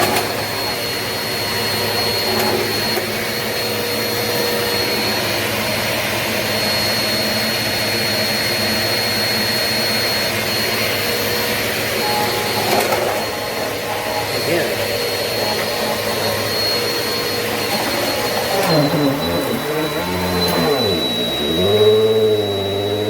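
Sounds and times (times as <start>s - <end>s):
vacuum cleaner running: 0.0s - 23.0s
high steady whistle: 0.4s - 23.0s.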